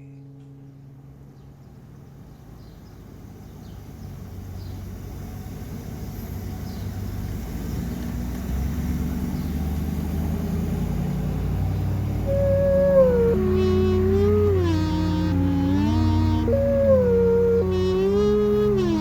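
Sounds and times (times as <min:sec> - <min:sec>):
low noisy rumble: 0:00.0 - 0:19.0.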